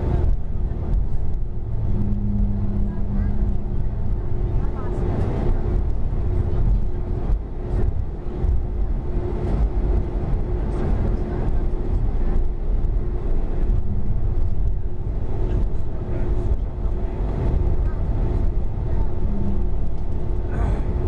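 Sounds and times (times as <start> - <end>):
aircraft engine cabin rumble: 0.0 - 21.0
faint murmur of voices: 0.0 - 21.0.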